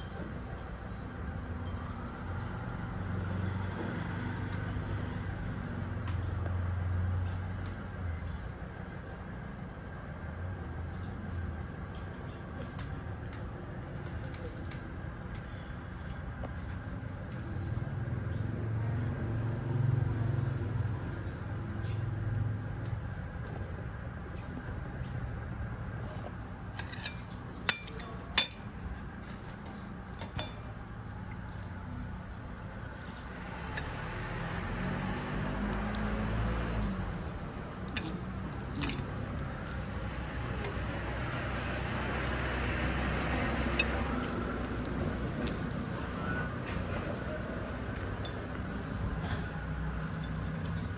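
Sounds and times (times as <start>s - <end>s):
vehicle engine rumble: 0.0s - 50.9s.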